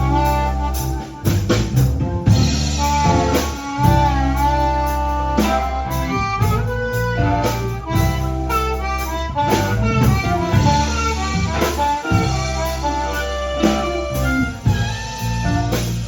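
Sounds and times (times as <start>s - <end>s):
bass line: 0.0s - 16.0s
bending lead melody: 0.0s - 16.0s
drums: 0.0s - 16.0s.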